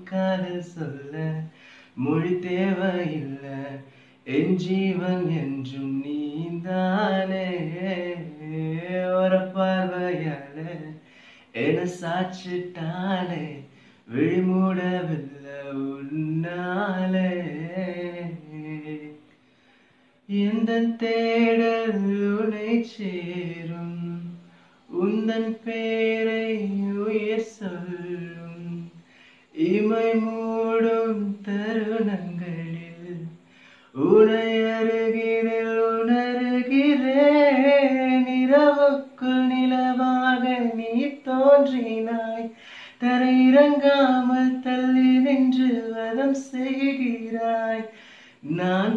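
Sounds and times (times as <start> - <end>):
man singing unaccompanied: 0.0 - 19.4, 20.2 - 48.9.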